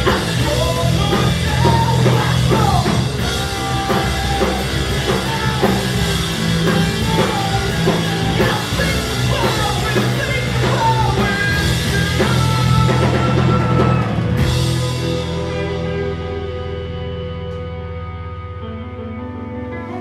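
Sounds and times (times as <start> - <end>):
rock band playing loudly: 0.0 - 20.0.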